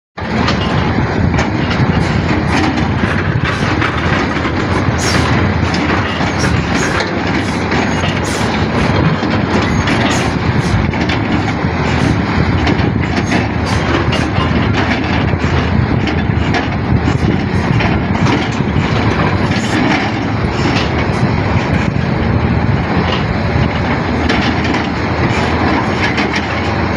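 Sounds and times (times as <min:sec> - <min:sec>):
metallic clanks and knocks: 0:00.2 - 0:22.1, 0:22.9 - 0:26.9
diesel engine running: 0:00.2 - 0:26.9.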